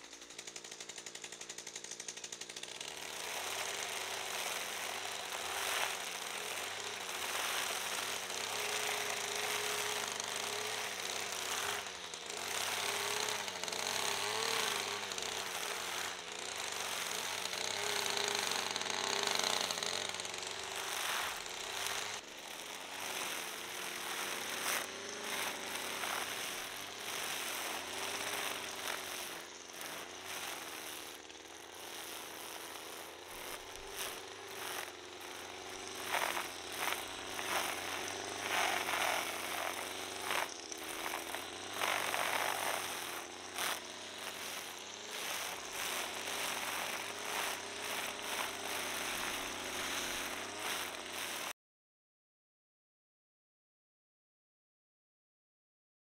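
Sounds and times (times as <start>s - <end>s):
string trimmer cutting grass: 0.0s - 51.6s.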